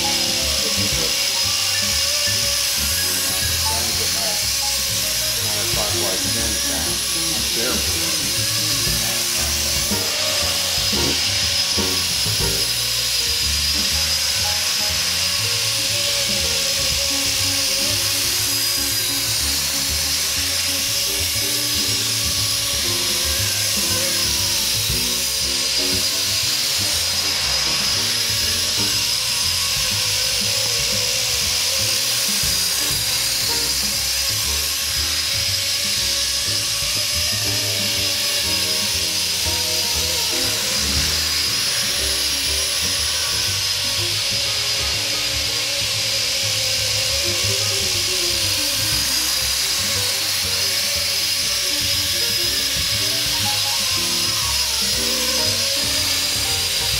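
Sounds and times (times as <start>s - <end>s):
helicopter rotor whine: 0.0s - 56.9s
music: 0.0s - 56.9s.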